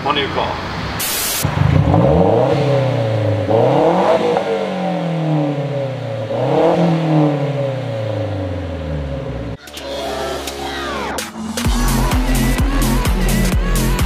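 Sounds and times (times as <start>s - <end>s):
car engine revving: 0.5s - 14.0s.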